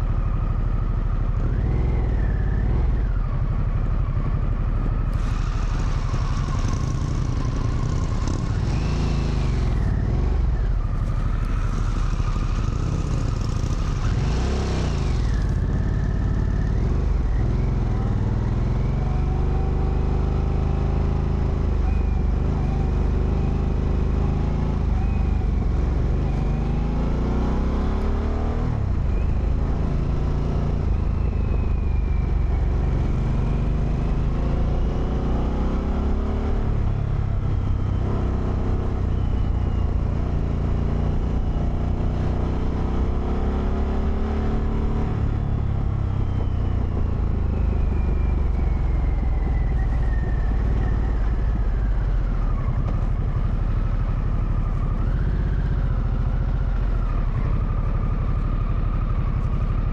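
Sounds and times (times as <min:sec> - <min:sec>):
motorcycle engine revving: 0:04.9 - 0:59.9.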